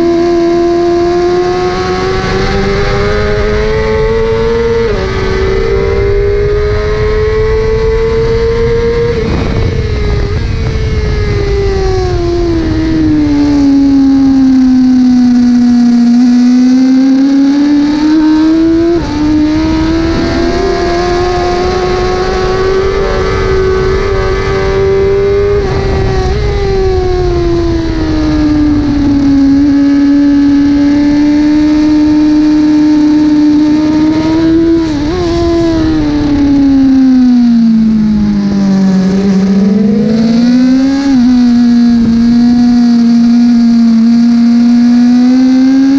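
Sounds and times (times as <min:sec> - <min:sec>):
superbike engine running hard: 0:00.0 - 0:45.9.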